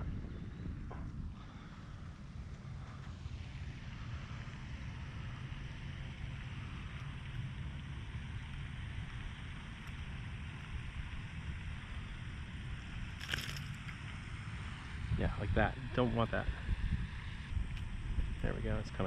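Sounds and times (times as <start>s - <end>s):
hiss of wind and water: 0.0s - 19.0s
wind buffeting microphone: 0.0s - 19.0s.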